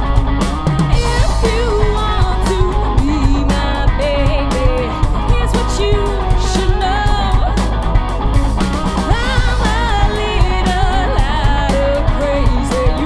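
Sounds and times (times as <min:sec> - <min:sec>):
bass guitar: 0:00.0 - 0:13.0
electric guitar lead line: 0:00.0 - 0:13.0
rock band playing live: 0:00.0 - 0:13.0
steady drum beat: 0:00.0 - 0:13.0.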